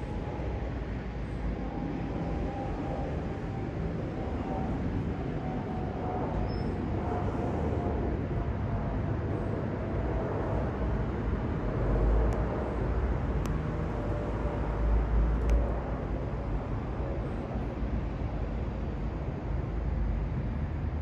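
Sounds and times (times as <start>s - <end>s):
distant jet engine rumble: 0.0s - 21.0s.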